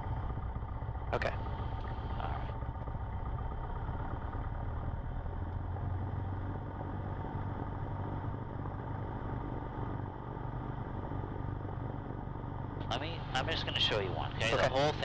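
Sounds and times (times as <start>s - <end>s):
aircraft engine running in cockpit: 0.0s - 15.0s.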